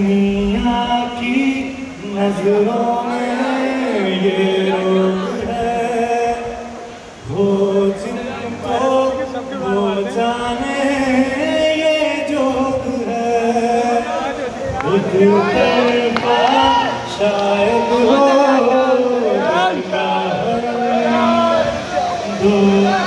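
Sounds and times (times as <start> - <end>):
man singing through a pa: 0.0 - 23.0.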